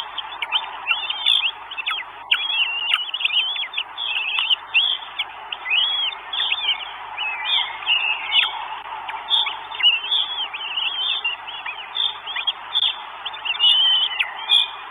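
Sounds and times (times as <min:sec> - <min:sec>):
birds chirping and whistling: 0:00.0 - 0:14.9.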